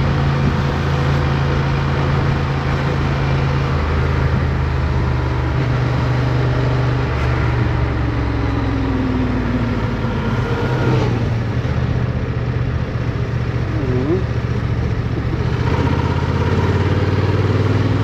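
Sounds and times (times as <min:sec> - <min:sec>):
motorcycle engine running: 0:00.0 - 0:18.0
rushing wind: 0:00.0 - 0:18.0.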